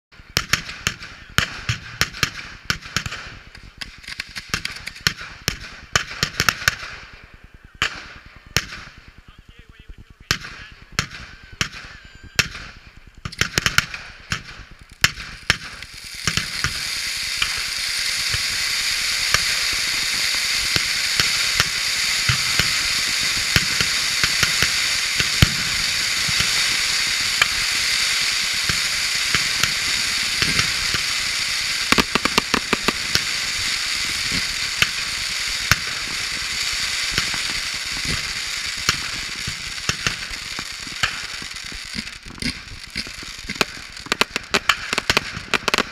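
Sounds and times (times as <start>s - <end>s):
firework cracks and bangs: 0.2s - 45.9s
fireworks hissing and crackling: 0.2s - 45.9s.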